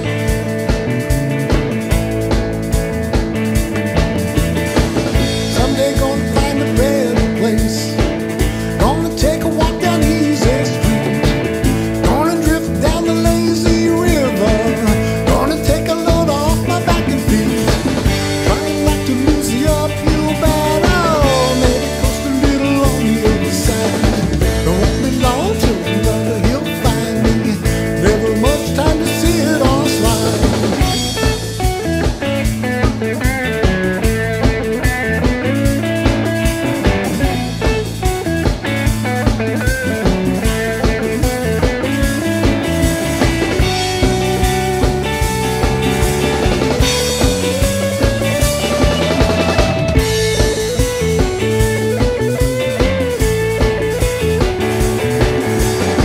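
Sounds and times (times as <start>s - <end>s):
rock music: 0.0s - 56.0s
steady drum beat: 0.0s - 56.0s.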